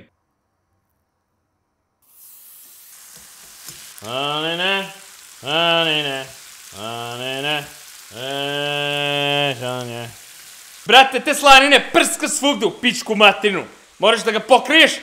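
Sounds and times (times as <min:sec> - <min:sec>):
bacon sizzling in a pan: 0:02.0 - 0:15.0.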